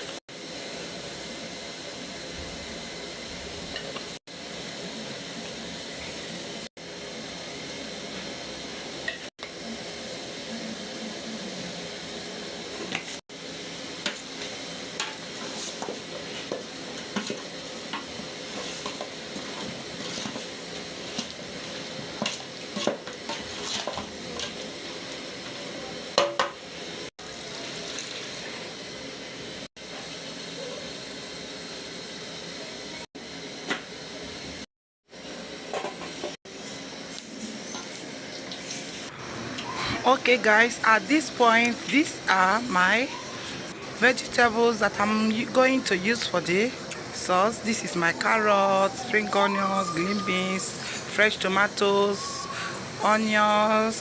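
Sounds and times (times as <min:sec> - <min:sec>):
food sizzling in pot: 0:00.0 - 0:54.0.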